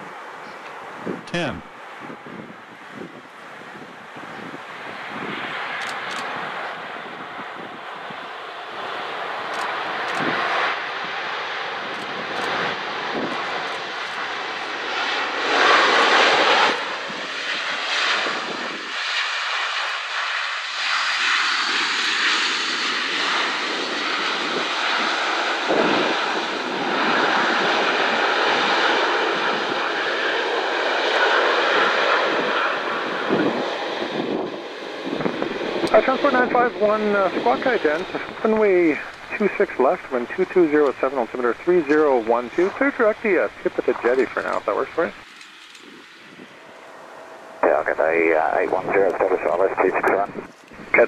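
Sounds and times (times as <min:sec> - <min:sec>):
jet airliner engines rushing: 0:00.0 - 0:51.0.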